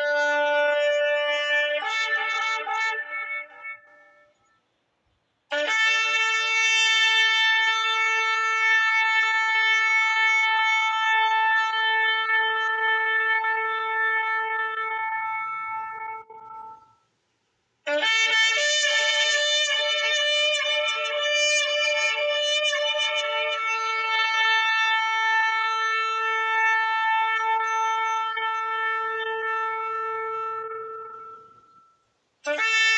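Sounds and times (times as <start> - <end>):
ram's horn blasts: 0.0 - 4.5, 5.5 - 17.1, 17.9 - 32.9.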